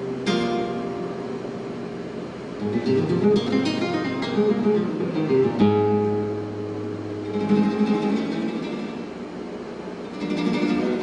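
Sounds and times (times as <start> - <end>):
classical guitar plucked notes: 0.0 - 9.2, 10.0 - 11.0.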